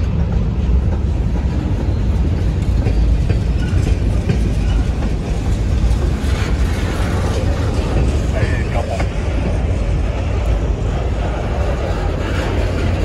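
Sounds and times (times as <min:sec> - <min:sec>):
train wheels rolling on rail: 0:00.0 - 0:13.0.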